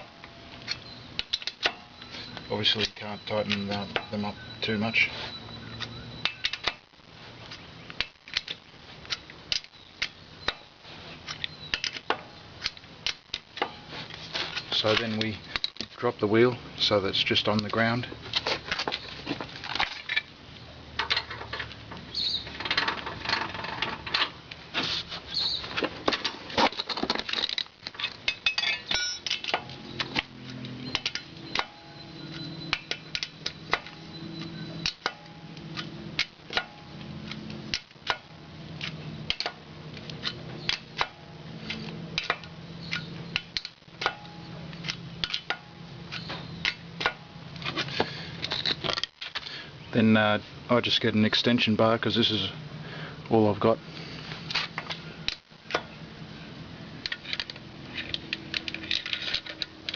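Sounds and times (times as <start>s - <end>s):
metallic clicks of car jack and tools: 0.0s - 6.9s, 7.5s - 16.0s, 16.8s - 24.6s, 25.4s - 49.6s, 54.5s - 56.0s, 57.0s - 59.9s.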